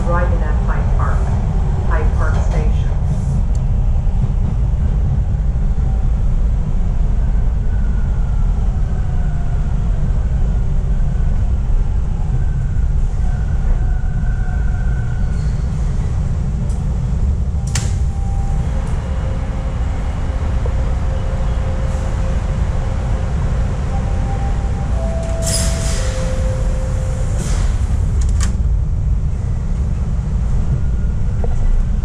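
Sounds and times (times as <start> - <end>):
subway train wheels rumbling: 0.0 - 32.0.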